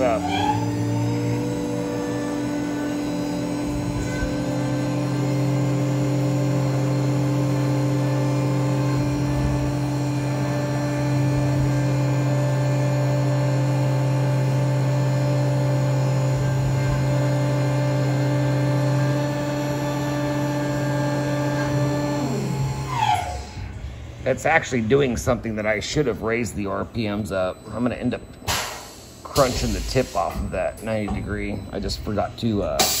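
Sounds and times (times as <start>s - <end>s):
milling machine hum: 0.0s - 33.0s.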